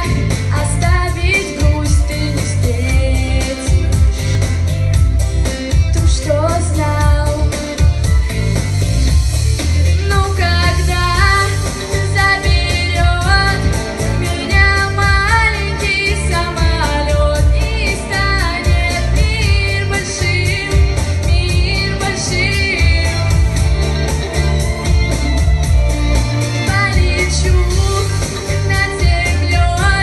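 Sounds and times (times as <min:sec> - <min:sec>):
woman singing: 0:00.0 - 0:04.7, 0:05.7 - 0:08.1, 0:09.8 - 0:30.0
backing track with bass beat: 0:00.0 - 0:30.0.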